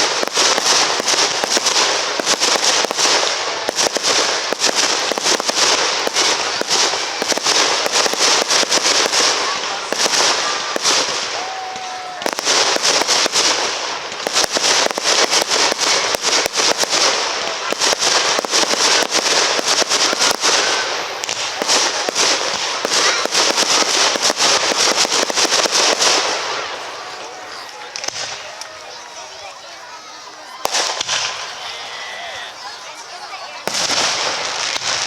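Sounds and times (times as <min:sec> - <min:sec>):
fireworks popping and crackling: 0:00.0 - 0:35.0.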